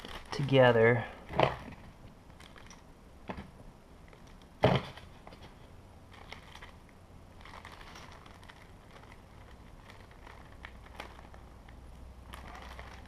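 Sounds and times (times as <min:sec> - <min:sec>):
plastic bags rustling: 0:00.0 - 0:02.9, 0:04.0 - 0:13.0.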